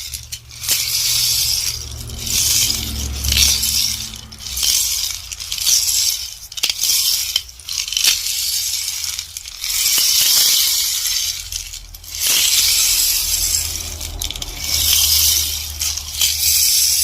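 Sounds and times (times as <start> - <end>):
rainstick pebbles trickling: 0.0 - 17.0.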